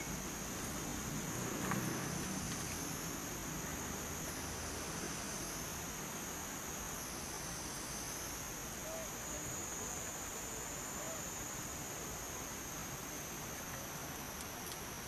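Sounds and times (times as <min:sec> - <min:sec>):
background hiss: 0:00.0 - 0:15.0
insect chorus drone: 0:00.0 - 0:15.0.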